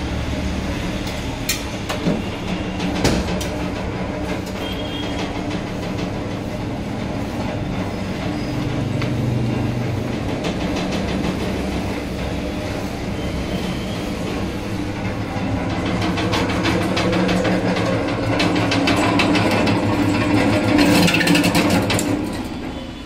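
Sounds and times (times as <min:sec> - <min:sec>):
irregular machine clatter: 0:00.1 - 0:23.0.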